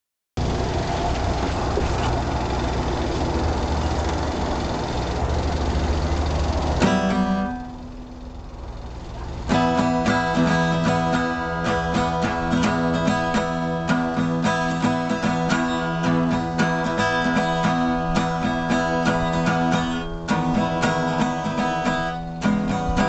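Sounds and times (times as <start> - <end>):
acoustic guitar strumming: 0.4 - 23.0.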